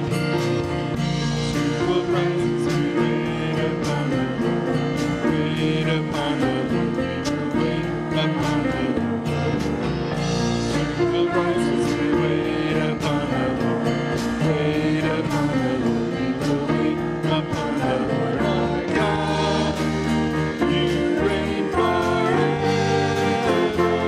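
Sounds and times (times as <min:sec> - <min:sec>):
guitars: 0:00.0 - 0:24.0
steady beat: 0:00.0 - 0:24.0
group singing a worship song: 0:01.4 - 0:24.0.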